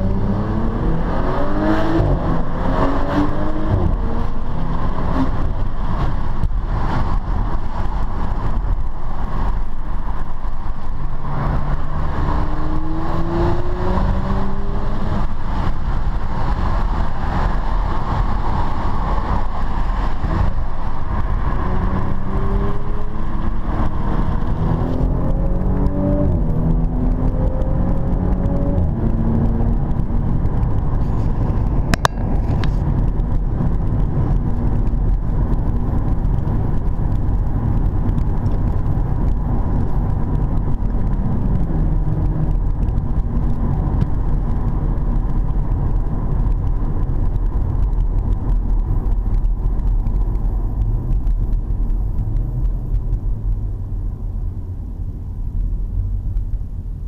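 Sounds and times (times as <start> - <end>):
car engine accelerating: 0.0 - 57.0
tyre and road rumble: 0.0 - 57.0.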